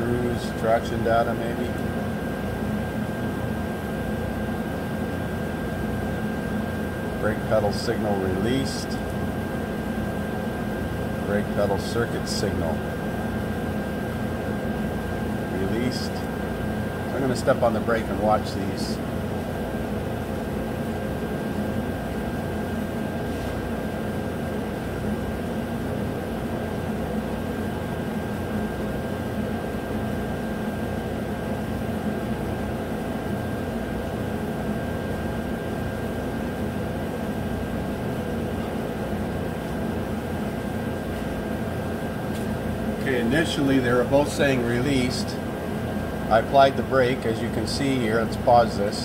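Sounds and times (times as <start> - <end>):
mechanical hum with high whine: 0.0 - 49.0.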